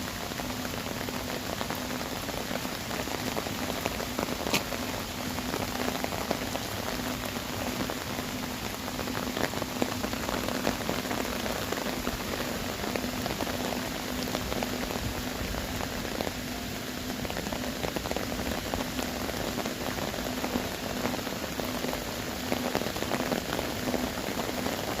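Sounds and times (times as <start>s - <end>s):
heavy rain on earthenware jars: 0.0s - 25.0s.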